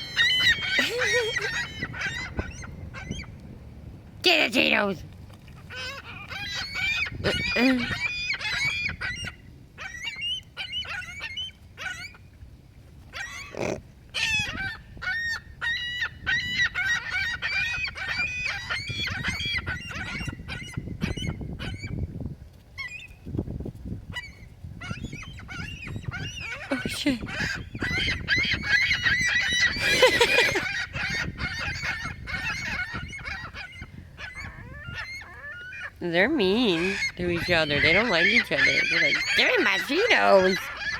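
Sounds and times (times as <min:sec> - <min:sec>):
seagulls squawking: 0:00.0 - 0:03.3, 0:05.7 - 0:12.2, 0:13.1 - 0:22.0, 0:24.1 - 0:40.9.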